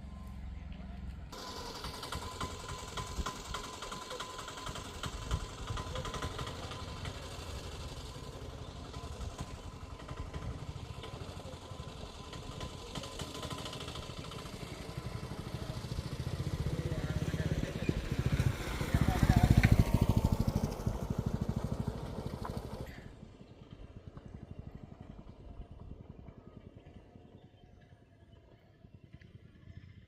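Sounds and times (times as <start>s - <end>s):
engine running with uneven pulsing: 0.0s - 30.0s.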